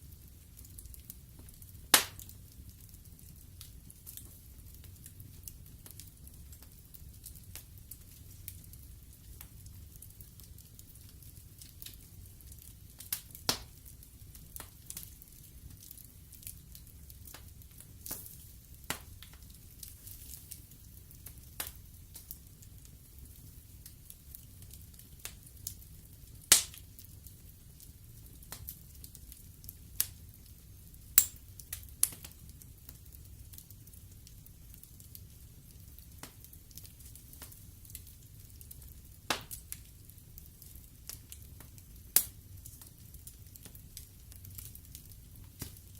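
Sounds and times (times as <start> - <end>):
low rumble of flames: 0.0 - 45.9
logs crackling and popping: 0.1 - 45.9.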